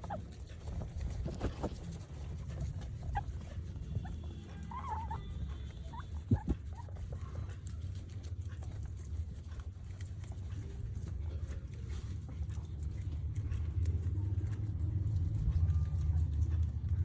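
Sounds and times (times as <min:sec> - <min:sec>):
guinea pig chewing: 0:00.0 - 0:17.0
steady low rumble: 0:00.0 - 0:17.0.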